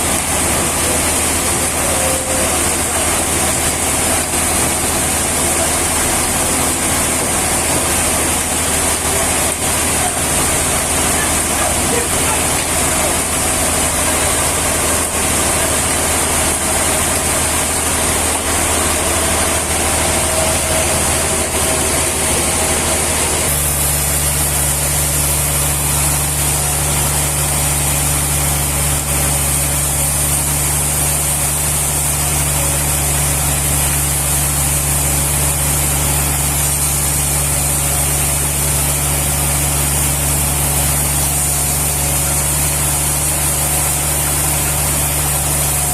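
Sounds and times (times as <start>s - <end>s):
loud machinery hiss: 0.0s - 45.9s
sawmill motor hum: 0.0s - 45.9s.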